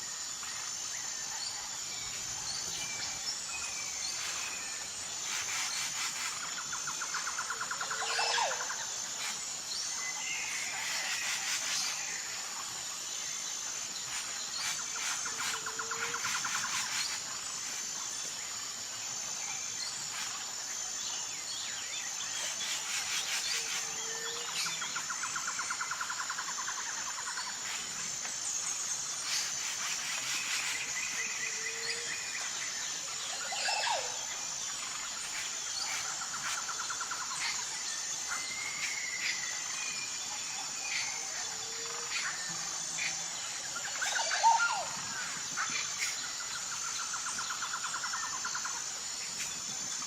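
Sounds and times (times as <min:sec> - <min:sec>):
high insect buzz: 0:00.0 - 0:50.0.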